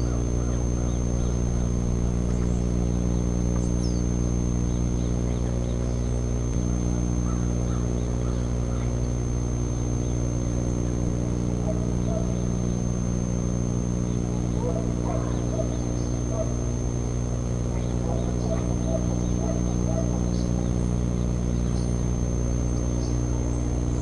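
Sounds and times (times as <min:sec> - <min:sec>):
steady low hum: 0:00.0 - 0:24.0
thin high whine: 0:00.0 - 0:24.0.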